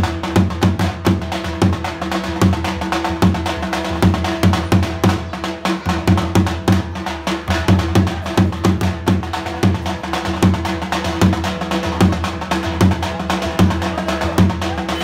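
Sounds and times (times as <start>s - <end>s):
dhol drum beating: 0.0s - 15.0s.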